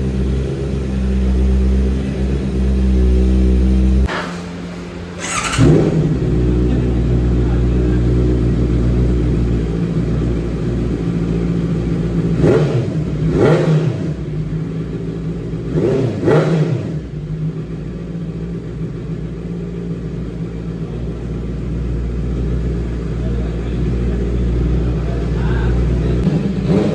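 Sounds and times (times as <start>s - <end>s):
motorcycle engine idling: 0.0s - 26.9s
motorcycle engine revving: 0.0s - 26.9s.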